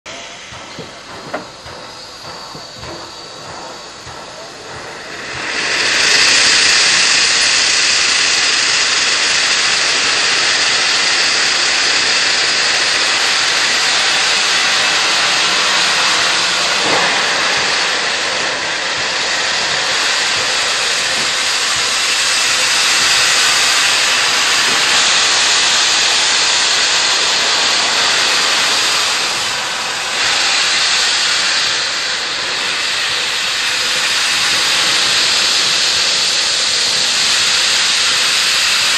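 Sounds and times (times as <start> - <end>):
steam locomotive venting steam: 0.1 - 38.9.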